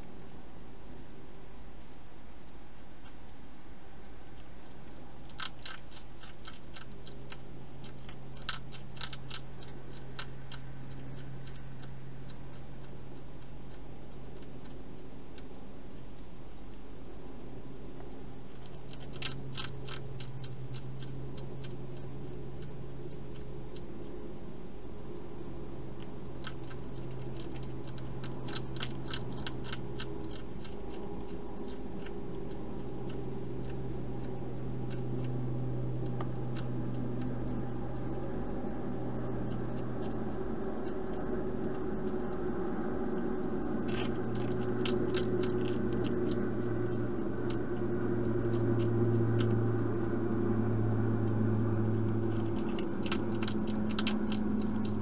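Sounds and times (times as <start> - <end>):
low hum: 0.0 - 55.0
hedgehog chewing clicks: 1.8 - 55.0.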